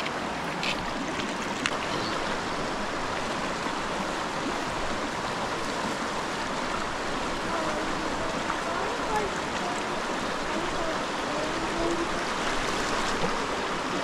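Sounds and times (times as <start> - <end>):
river flowing over stones: 0.0 - 14.0.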